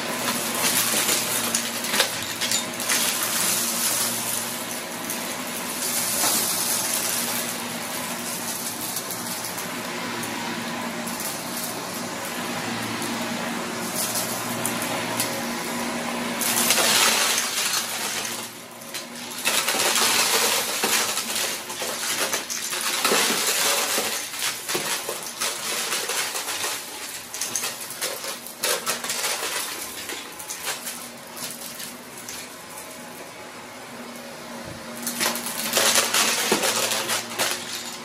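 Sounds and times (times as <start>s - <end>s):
debris rattling through vacuum: 0.0s - 38.0s
stick vacuum motor hum: 0.0s - 38.0s.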